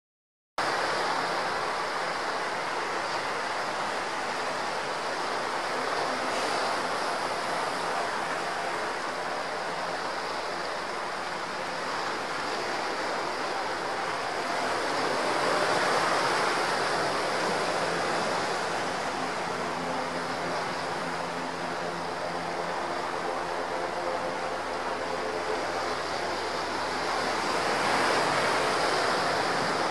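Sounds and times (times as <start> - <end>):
helicopter hovering: 3.8 - 29.9.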